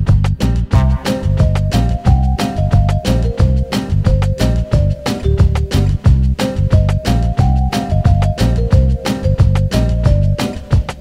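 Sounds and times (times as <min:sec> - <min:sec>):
background music with heavy bass: 0:00.0 - 0:11.0.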